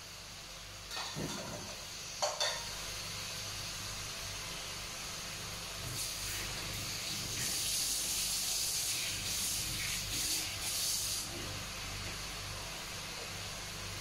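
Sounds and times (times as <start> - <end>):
food sizzling in a pot: 0.0 - 13.8.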